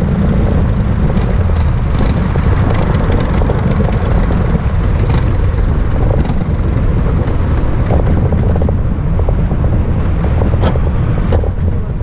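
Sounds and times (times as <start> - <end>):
kart engine running: 0.0 - 12.0.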